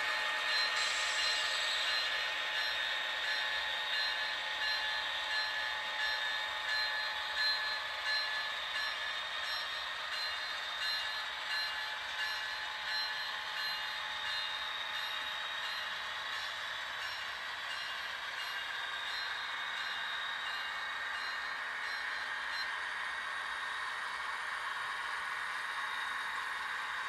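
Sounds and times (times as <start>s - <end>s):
railway bell ringing: 0.0s - 27.0s
train hiss and rumble: 0.0s - 27.0s.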